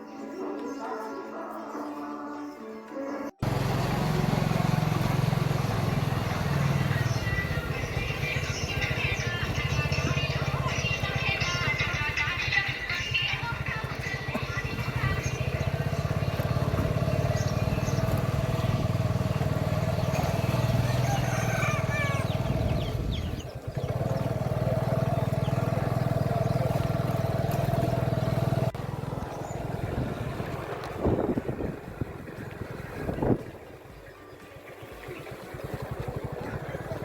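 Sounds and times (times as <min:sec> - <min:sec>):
engine running: 0:03.4 - 0:37.0.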